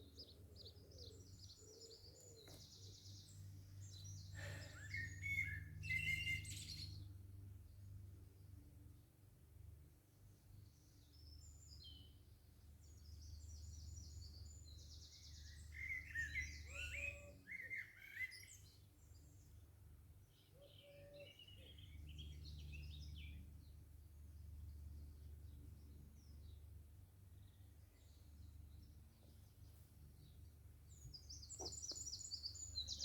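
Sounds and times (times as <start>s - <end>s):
small birds chirping and singing: 0.0s - 8.0s, 10.5s - 33.0s.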